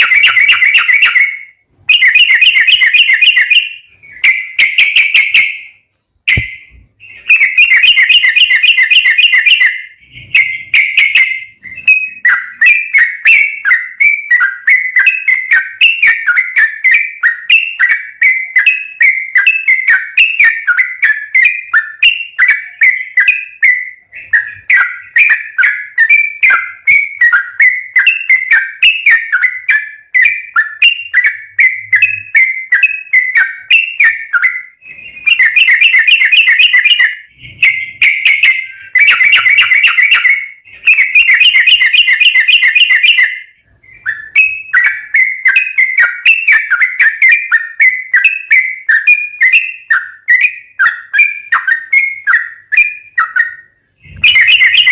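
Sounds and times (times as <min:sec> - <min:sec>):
bulbul singing: 0:00.0 - 0:54.9.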